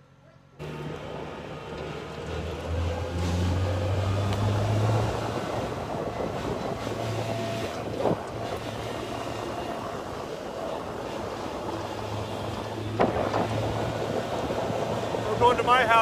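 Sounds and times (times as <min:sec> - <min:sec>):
road noise: 0:00.6 - 0:16.0
vehicle engine hum: 0:00.6 - 0:16.0.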